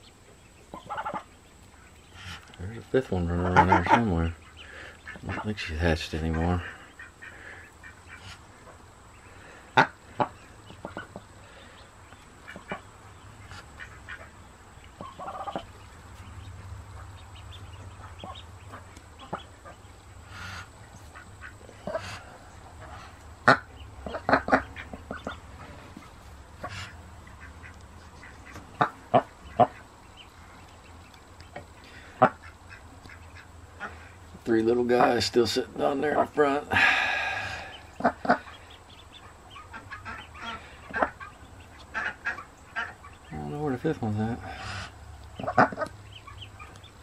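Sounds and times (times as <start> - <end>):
duck quacking: 2.1 - 8.8, 9.6 - 11.2, 12.4 - 29.9, 31.8 - 34.2, 35.0 - 46.9.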